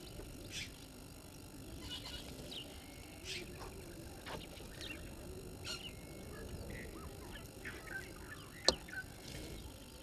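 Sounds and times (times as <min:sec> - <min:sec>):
faint steady background noise: 0:00.0 - 0:10.0
wild birds chirping and whistling: 0:00.0 - 0:10.0.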